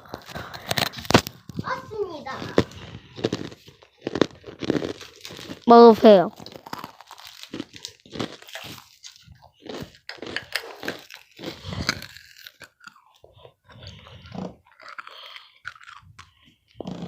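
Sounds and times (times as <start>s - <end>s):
rice crackers crunching: 0.0s - 17.0s.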